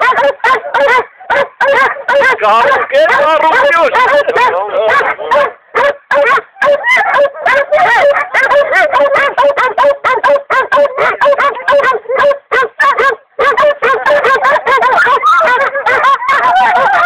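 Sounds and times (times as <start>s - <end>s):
hunting dogs baying and yelping: 0.0s - 17.0s.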